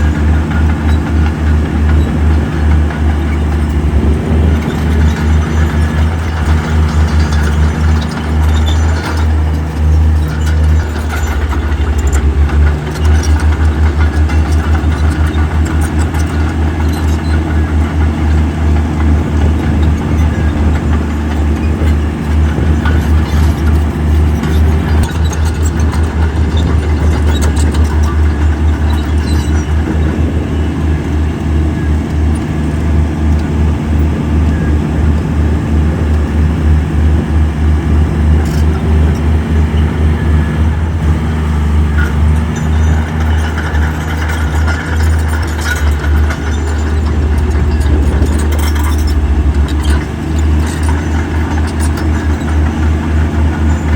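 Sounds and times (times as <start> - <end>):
heavy diesel engine droning: 0.0 - 53.9.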